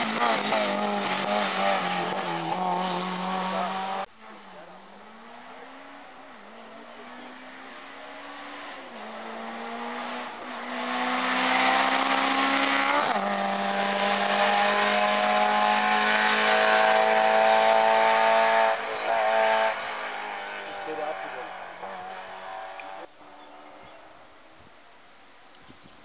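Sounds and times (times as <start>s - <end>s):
race car engine passing at high revs: 0.0s - 24.2s.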